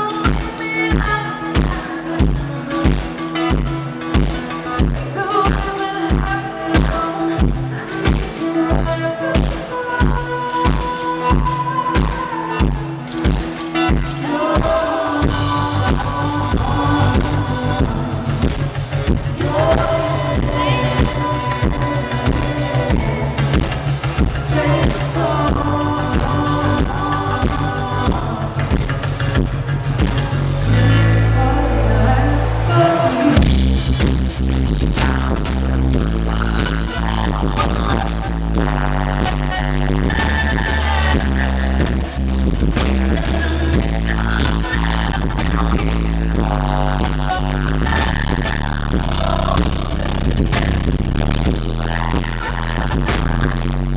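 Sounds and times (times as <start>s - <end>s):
person singing: 0.0s - 29.4s, 30.6s - 34.2s, 34.8s - 53.9s
bass notes: 0.0s - 53.9s
live band music: 0.0s - 53.9s.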